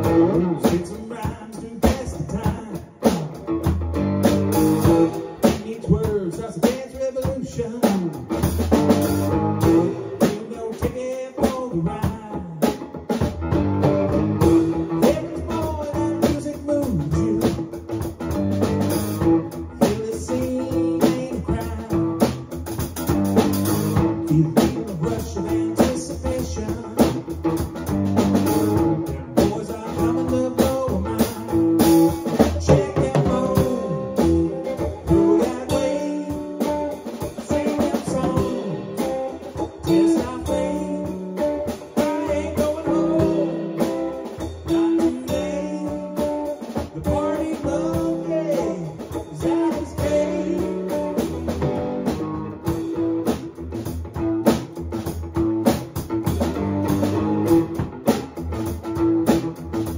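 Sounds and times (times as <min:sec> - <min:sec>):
drum kit played with sticks: 0:00.0 - 0:59.9
guitar: 0:00.0 - 0:59.9.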